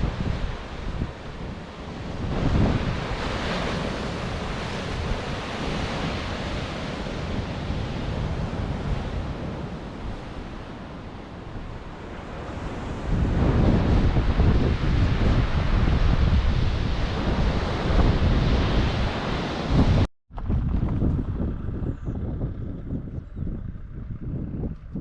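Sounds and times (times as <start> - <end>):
surf washing onto shore: 0.0 - 20.1
wind buffeting microphone: 0.0 - 25.0.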